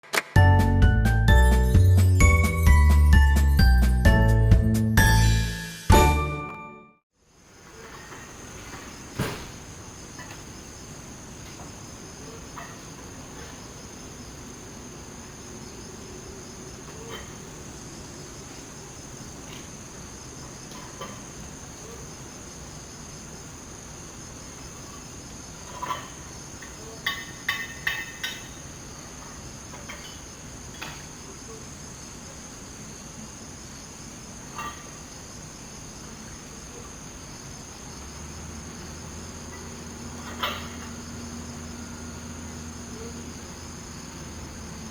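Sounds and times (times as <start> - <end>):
cicadas droning: 7.1 - 44.9.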